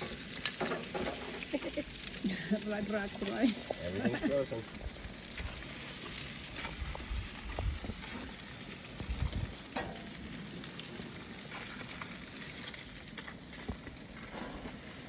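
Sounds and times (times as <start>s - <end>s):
food sizzling on a grill: 0.0s - 15.0s.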